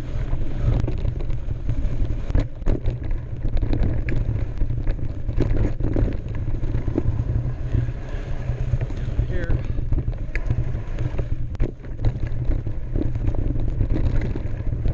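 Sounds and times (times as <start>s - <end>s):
bike rattling over rocky trail: 0.0s - 14.9s
wind buffeting microphone: 0.0s - 14.9s.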